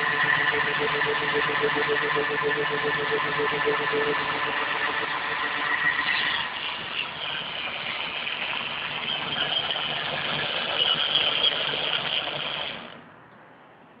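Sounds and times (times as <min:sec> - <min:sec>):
machine whirring and rattling: 0:00.0 - 0:13.1.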